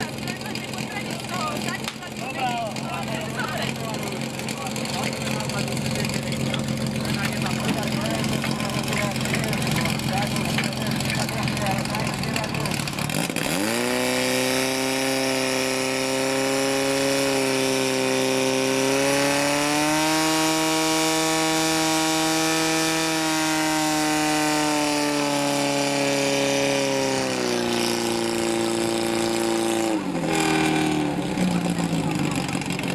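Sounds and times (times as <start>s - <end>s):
pump engine running: 0.0s - 32.9s.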